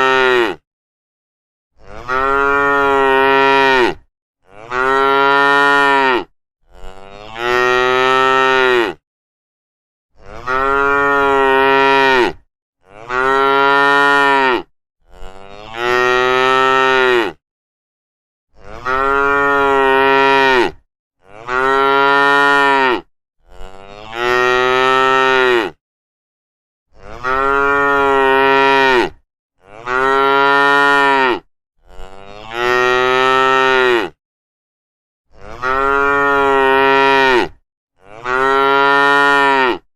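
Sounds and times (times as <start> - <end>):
cattle mooing: 1.8 - 9.0, 10.2 - 17.4, 18.6 - 25.8, 27.0 - 34.2, 35.3 - 39.9.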